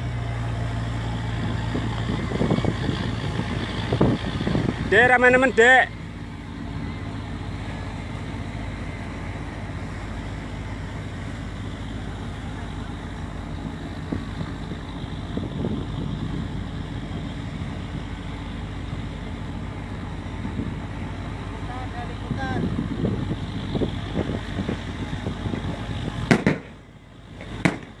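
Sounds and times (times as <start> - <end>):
boat diesel engine humming: 0.0 - 28.0.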